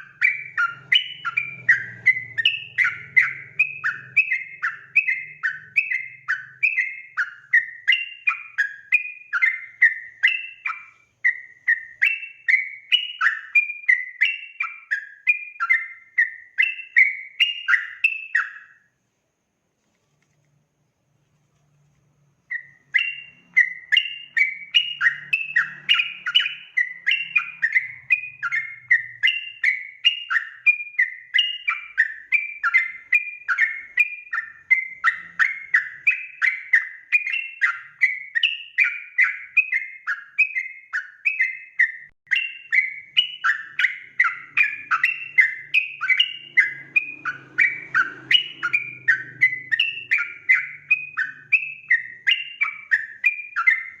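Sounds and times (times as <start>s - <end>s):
bird singing rapid notes: 0.0s - 19.0s, 22.2s - 54.0s.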